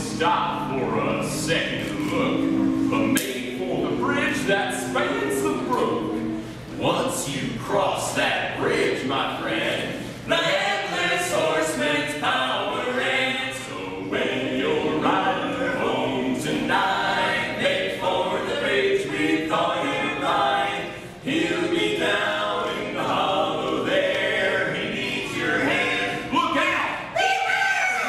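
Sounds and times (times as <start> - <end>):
men singing in harmony: 0.2 - 8.0, 10.1 - 26.4.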